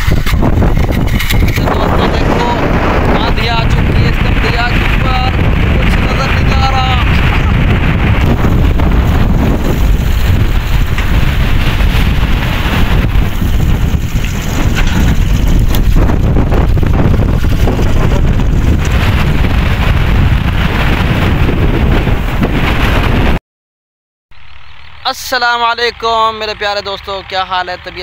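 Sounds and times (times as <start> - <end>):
deep rumble: 0.0 - 23.4
strong wind blasting microphone: 0.0 - 23.4.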